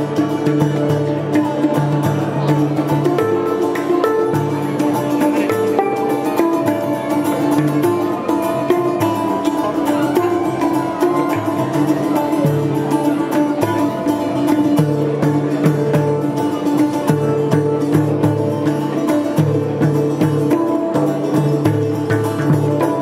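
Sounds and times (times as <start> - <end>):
frame drum beating: 0.0 - 23.0
handpan ringing notes: 0.0 - 23.0
plucked long-necked lute: 0.0 - 23.0.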